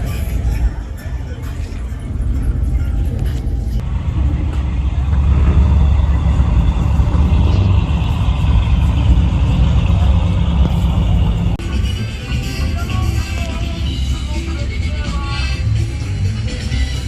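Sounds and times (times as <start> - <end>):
truck engine running loud and low: 0.0 - 17.0.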